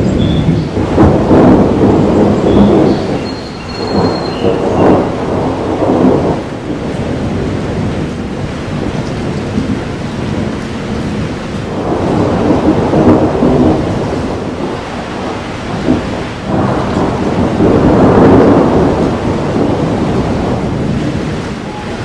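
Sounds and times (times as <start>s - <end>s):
rain hissing: 0.0s - 22.0s
thunder rolling: 0.0s - 22.0s.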